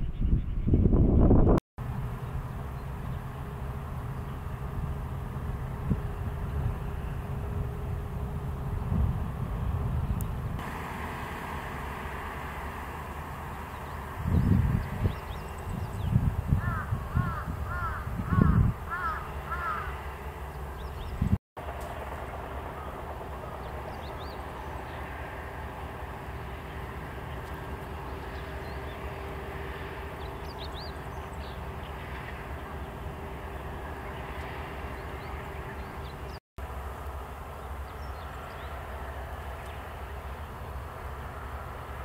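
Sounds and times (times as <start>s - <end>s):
distant traffic rumble: 0.0s - 42.0s.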